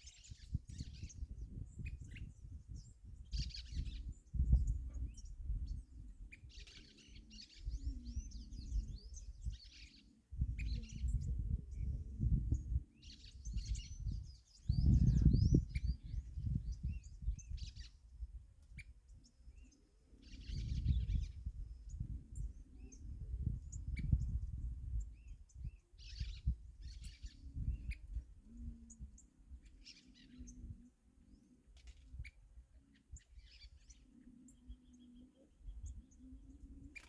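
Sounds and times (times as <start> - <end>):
small birds singing and chirping: 0.0 - 37.0.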